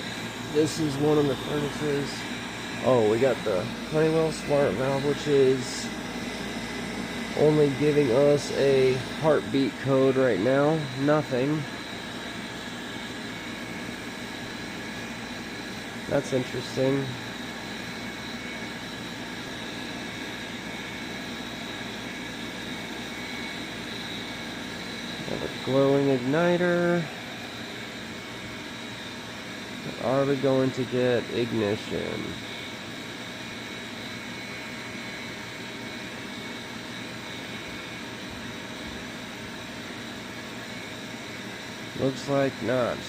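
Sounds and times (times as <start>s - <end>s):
furnace motor whooshing and whining: 0.0s - 43.0s.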